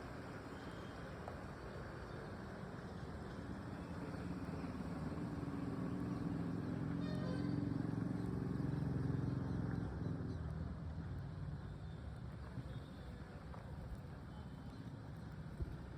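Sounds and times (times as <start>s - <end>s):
vehicle engine hum: 0.1s - 15.9s.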